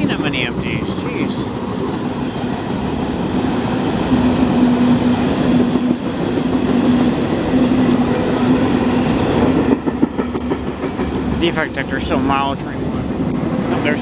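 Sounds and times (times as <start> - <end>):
steel wheels on rail: 0.0 - 14.0.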